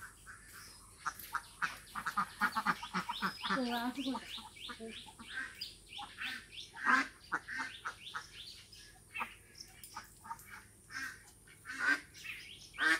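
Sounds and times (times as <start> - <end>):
animal chirping and squawking: 0.0 - 12.9.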